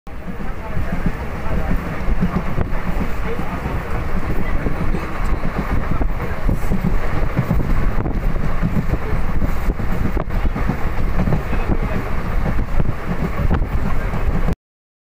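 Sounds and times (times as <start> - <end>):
train running rumble: 0.1 - 14.6
wind rushing over microphone: 0.1 - 14.6.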